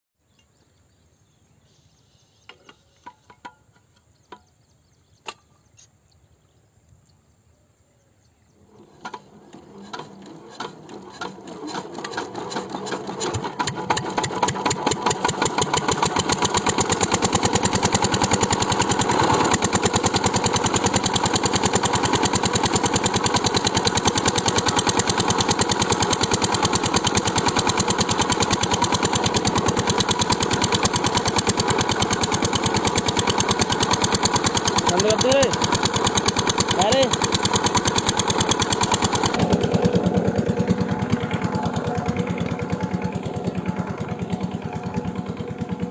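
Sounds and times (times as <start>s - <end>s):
diesel pump engine running: 8.6s - 45.9s.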